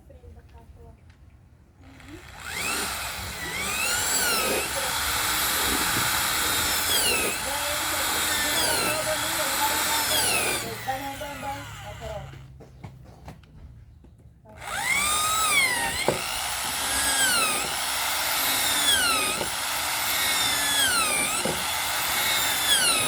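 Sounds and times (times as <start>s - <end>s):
electric drill boring into wood: 1.8s - 12.5s, 14.6s - 23.0s.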